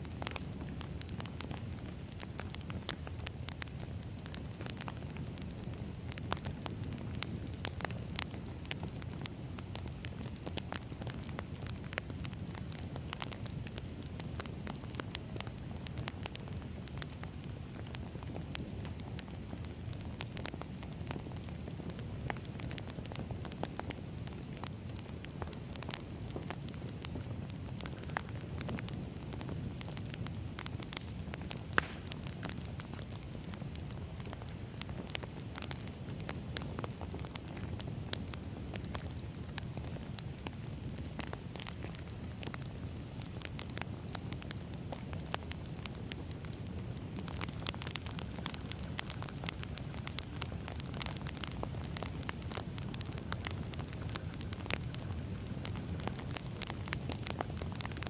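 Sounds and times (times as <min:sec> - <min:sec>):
fire low rumble and hiss: 0:00.0 - 0:58.0
wood fire crackling and popping: 0:00.0 - 0:58.0.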